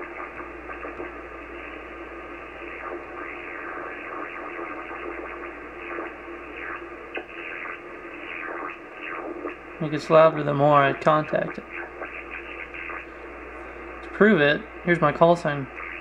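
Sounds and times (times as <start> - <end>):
radio band hiss: 0.0 - 16.0
steady low hum: 0.0 - 16.0
warbling radio interference tones: 0.0 - 16.0.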